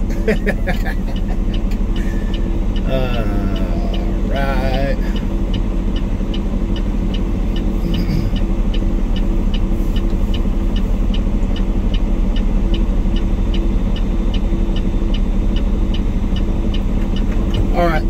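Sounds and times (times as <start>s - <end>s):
diesel truck engine idling: 0.0s - 18.0s
light regular ticking: 0.0s - 18.0s.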